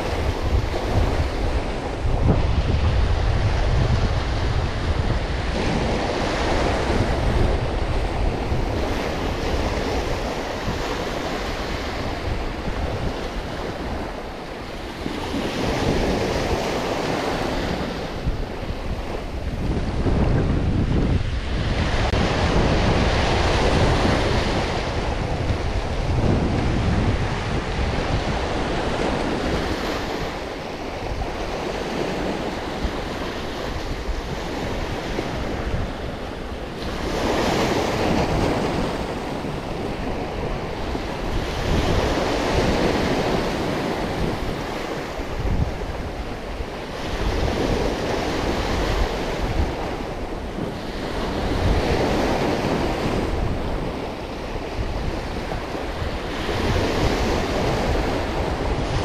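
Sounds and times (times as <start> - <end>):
small waves breaking on beach: 0.0 - 59.0
wind on microphone: 0.0 - 59.0.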